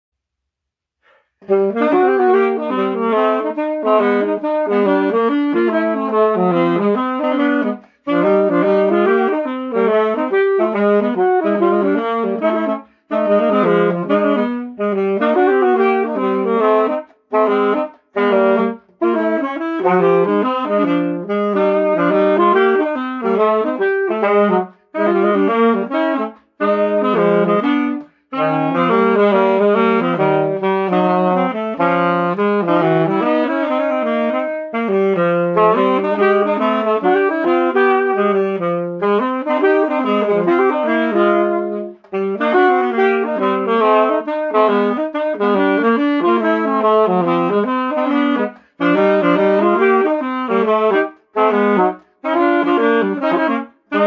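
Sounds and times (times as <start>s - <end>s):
alto saxophones playing bebop: 1.0s - 54.0s.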